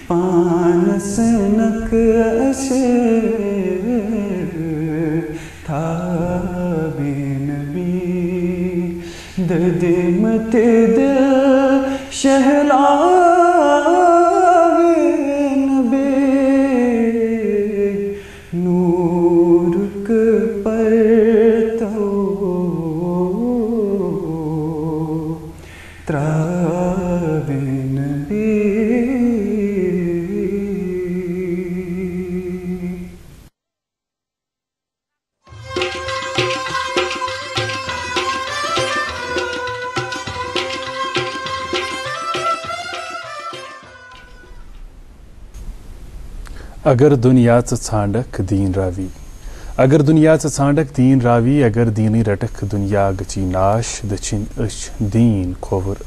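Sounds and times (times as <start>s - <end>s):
man singing unaccompanied: 0.0s - 33.3s, 35.5s - 44.7s, 46.8s - 56.0s.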